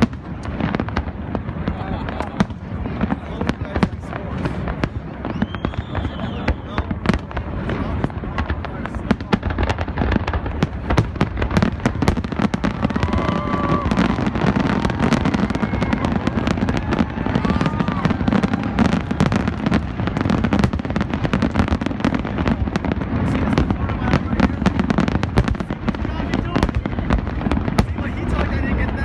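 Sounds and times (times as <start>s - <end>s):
faint crowd voices: 0.0s - 29.0s
fireworks bangs and crackles: 0.0s - 29.0s.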